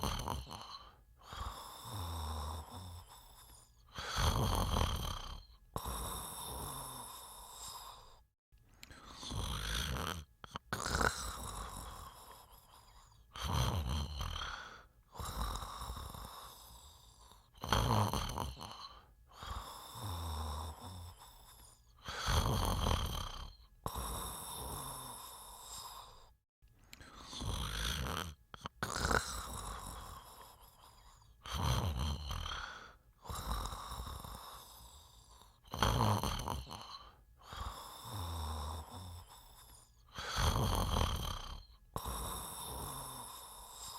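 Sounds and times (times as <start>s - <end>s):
person snoring: 0.0s - 43.9s.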